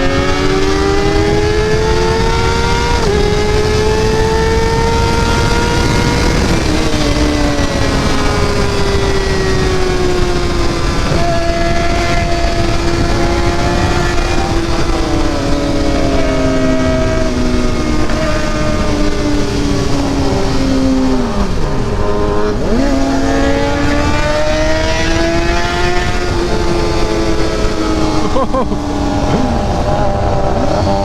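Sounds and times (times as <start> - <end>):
motorcycle engine revving: 0.0 - 31.0
steady rushing noise: 0.0 - 31.0.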